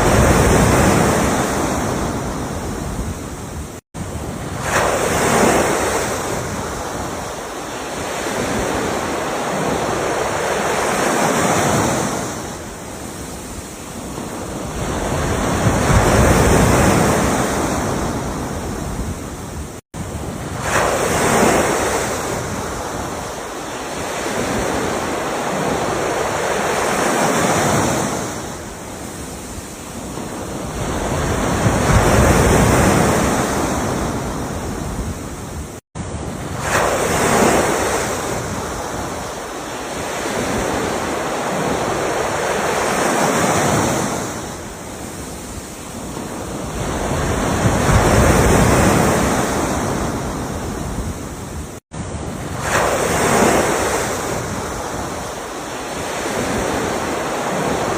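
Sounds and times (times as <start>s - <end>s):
ocean waves breaking: 0.0s - 57.9s.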